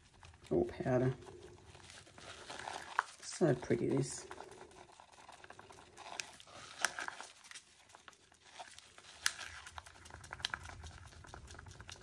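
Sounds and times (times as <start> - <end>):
light crinkling: 0.0 - 12.0
stir stick scraping in plastic cup: 0.0 - 12.0.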